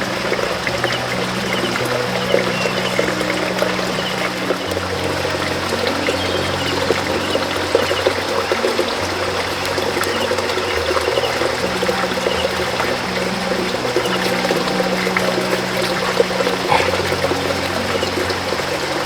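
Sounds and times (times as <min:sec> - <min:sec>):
soft background music: 0:00.0 - 0:19.0
water running and trickling: 0:00.0 - 0:19.0.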